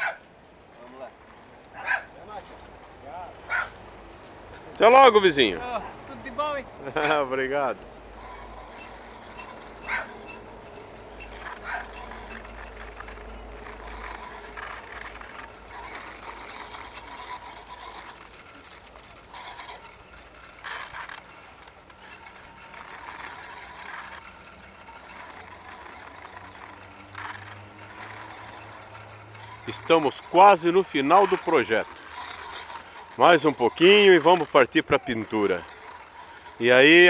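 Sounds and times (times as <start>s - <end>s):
rail bike rattling on rails: 0.0s - 37.0s.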